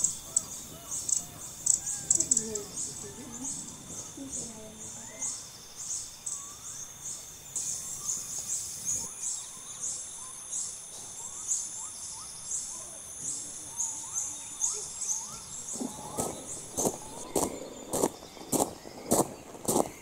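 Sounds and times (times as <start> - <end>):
insects droning: 0.0 - 20.0
pulsing insect chirp: 0.0 - 20.0.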